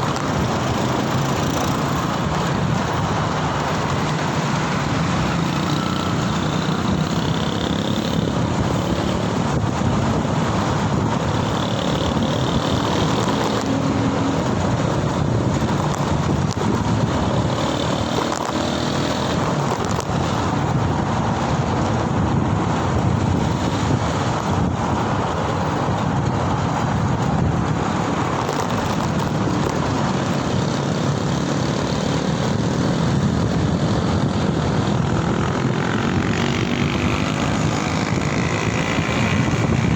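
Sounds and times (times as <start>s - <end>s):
motor vehicles running: 0.0s - 39.9s
wind and tyres rushing: 0.0s - 39.9s.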